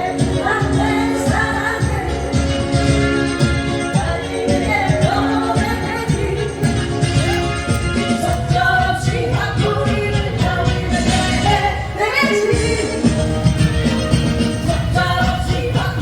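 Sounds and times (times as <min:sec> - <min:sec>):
woman singing: 0:00.0 - 0:03.2, 0:03.8 - 0:16.0
live band music: 0:00.0 - 0:16.0.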